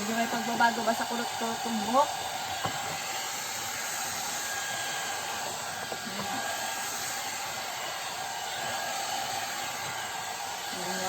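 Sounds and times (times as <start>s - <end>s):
hot air brush fan blowing: 0.0s - 11.0s.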